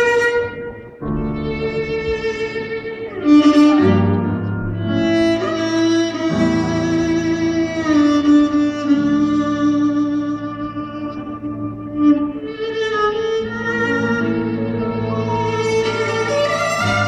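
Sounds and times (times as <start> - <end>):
violin playing long held notes: 0.0 - 17.0.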